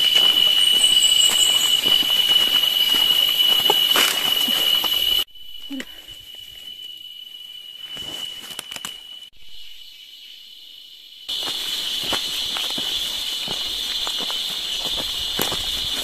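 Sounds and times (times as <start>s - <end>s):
insects droning high-pitched: 0.0s - 16.0s.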